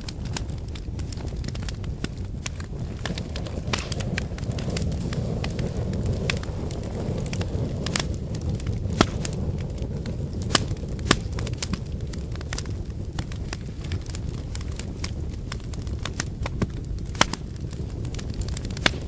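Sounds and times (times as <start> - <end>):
loud fire pops: 0.0 - 19.0
wood fire crackling: 0.0 - 19.0.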